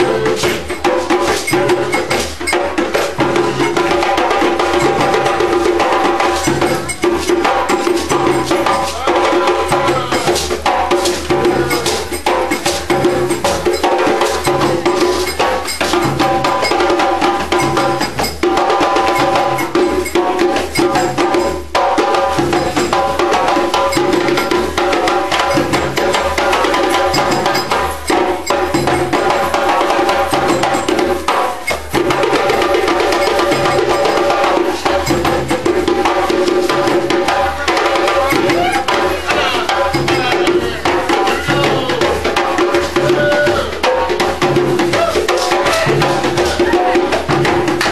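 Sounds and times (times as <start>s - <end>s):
hand drums and percussion: 0.0s - 47.9s.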